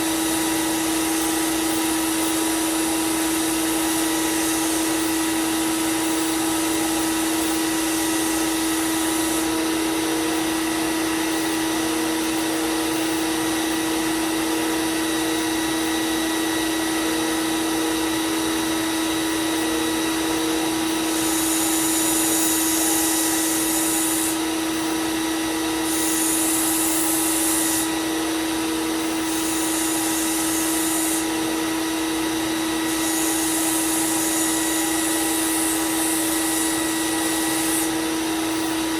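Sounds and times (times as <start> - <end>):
belt sander humming: 0.0 - 38.9
knife grinding on sander belt: 0.0 - 38.9.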